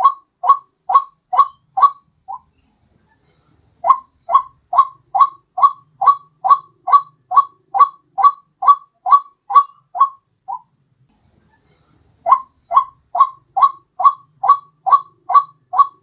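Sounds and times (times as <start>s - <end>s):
waterhen call: 0.0s - 2.5s, 3.8s - 10.7s, 12.3s - 16.0s.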